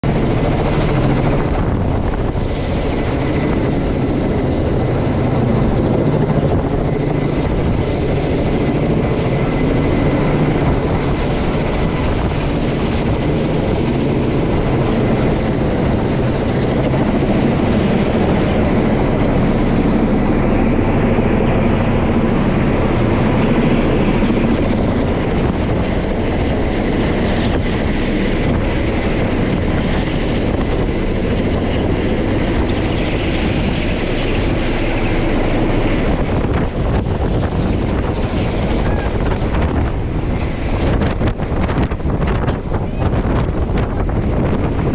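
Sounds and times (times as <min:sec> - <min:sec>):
helicopter flying overhead: 0:00.0 - 0:44.9.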